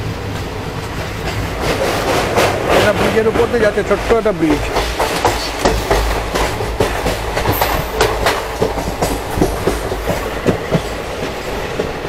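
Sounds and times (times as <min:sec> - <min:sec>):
train running rumble: 0:00.0 - 0:12.0
train wheels clacking over rail joints: 0:00.3 - 0:12.0.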